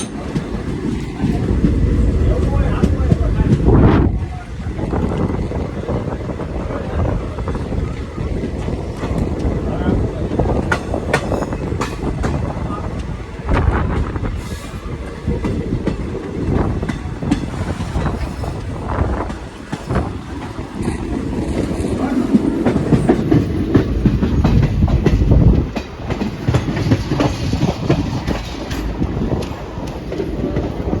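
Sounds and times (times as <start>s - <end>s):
train low rumble: 0.0s - 31.0s
train wheels clattering over rails: 0.0s - 31.0s.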